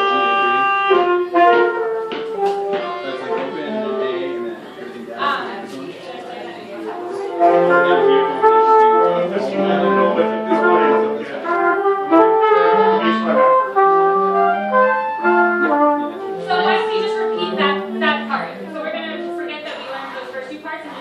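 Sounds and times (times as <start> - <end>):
brass band playing: 0.0 - 5.7, 6.5 - 20.3.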